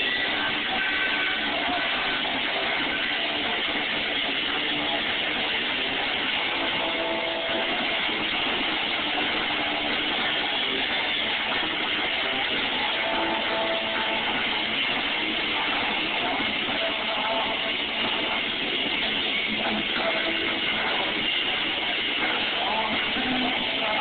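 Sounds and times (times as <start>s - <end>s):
electric guitars: 0.0s - 24.0s
rock band playing loud: 0.0s - 24.0s.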